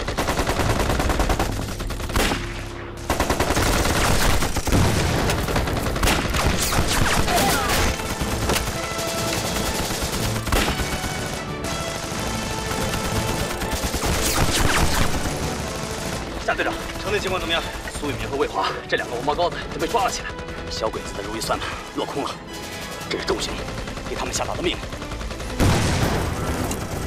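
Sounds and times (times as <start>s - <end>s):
rifle and machine-gun fire: 0.0s - 18.3s, 22.5s - 27.0s
background music: 0.0s - 27.0s.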